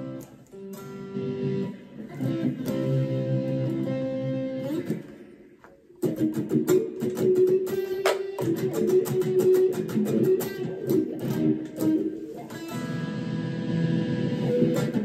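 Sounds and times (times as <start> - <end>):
wah electric guitar: 0.0 - 15.0.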